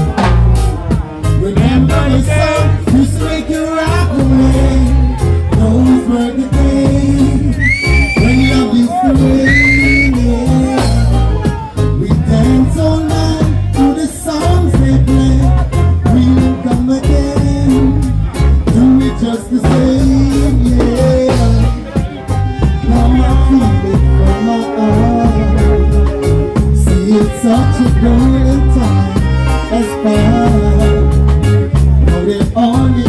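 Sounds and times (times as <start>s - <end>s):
drums steady beat: 0.0s - 33.0s
heavy bass line: 0.0s - 33.0s
live reggae band playing: 0.0s - 33.0s.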